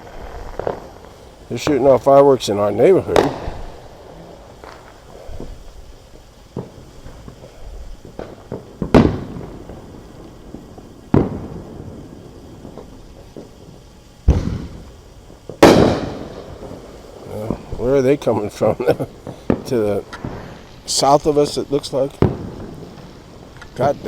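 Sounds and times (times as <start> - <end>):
small firework pops: 0.0 - 1.8, 3.1 - 17.9, 19.2 - 21.3, 22.1 - 24.0
loud firework bangs: 0.0 - 24.0
rolling echo: 2.8 - 5.8, 6.5 - 24.0.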